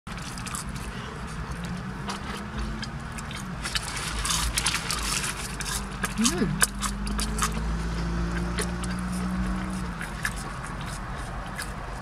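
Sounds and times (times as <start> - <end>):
chewing and crunching food: 0.1 - 12.0
steady low hum: 0.1 - 12.0.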